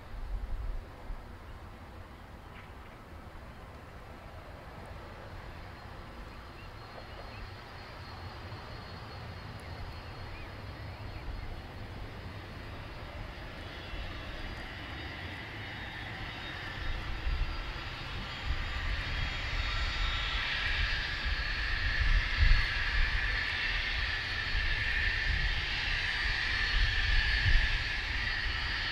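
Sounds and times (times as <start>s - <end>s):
jet engines rumbling and whining: 0.0s - 28.9s.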